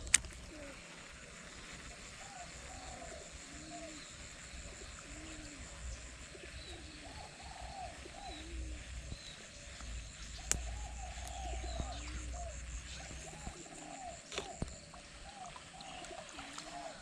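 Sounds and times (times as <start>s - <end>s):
cooing animal calls: 0.5s - 1.0s, 2.1s - 9.0s, 10.6s - 17.0s.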